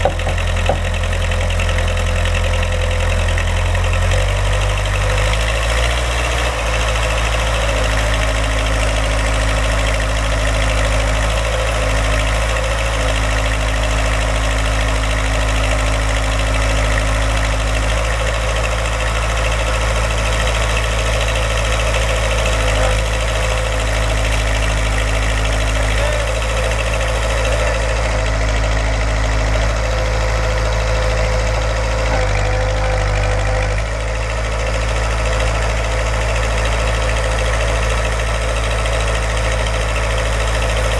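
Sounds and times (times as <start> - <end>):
backhoe engine idling: 0.0 - 40.9.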